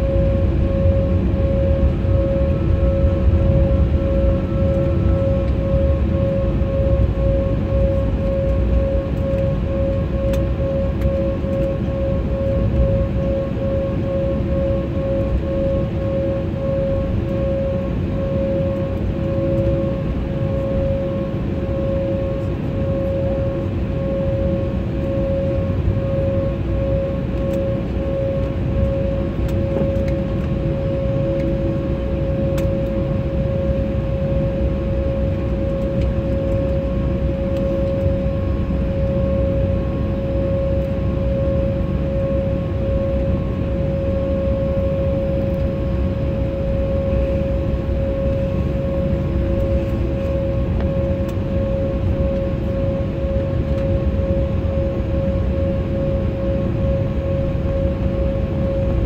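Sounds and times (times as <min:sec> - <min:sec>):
jet engines whining and rumbling: 0:00.0 - 0:59.0.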